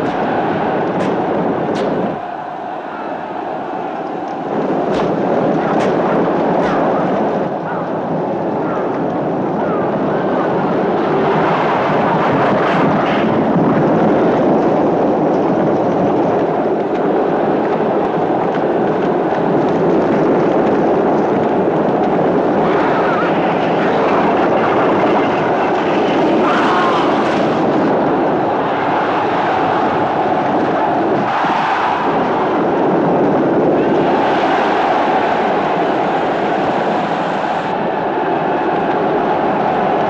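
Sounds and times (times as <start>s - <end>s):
chariot wheels rumbling: 0.0s - 40.0s
horses galloping: 0.0s - 40.0s.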